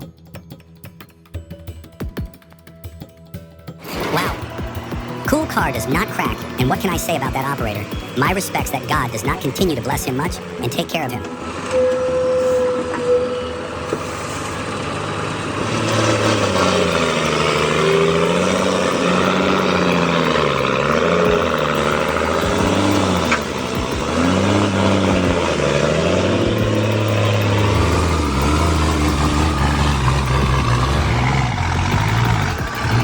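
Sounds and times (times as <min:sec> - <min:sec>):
vehicle engine revving: 0:03.8 - 0:33.0.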